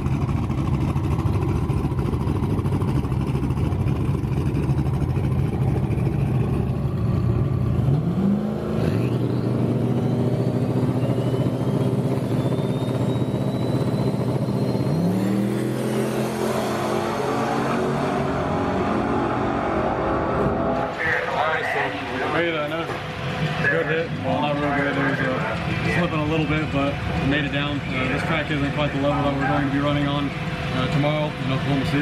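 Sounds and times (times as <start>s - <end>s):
car engine idling with loud lope: 0.0s - 32.0s.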